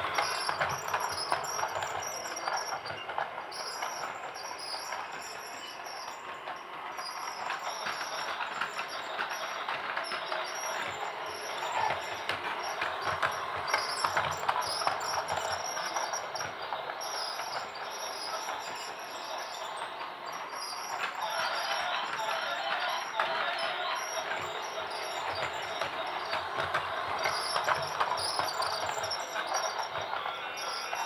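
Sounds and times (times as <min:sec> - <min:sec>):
toy train rattling clicks: 0:00.1 - 0:31.0.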